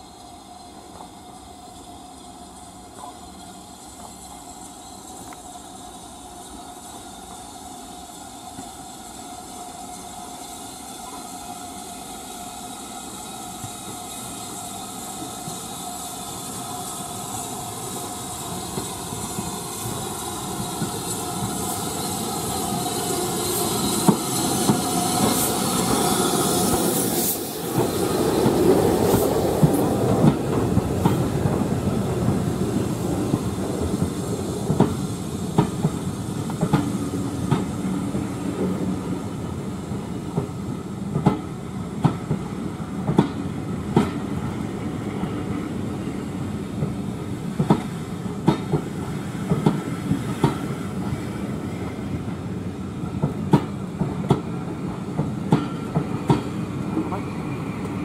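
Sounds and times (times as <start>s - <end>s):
steam train rumble: 0.0s - 58.0s.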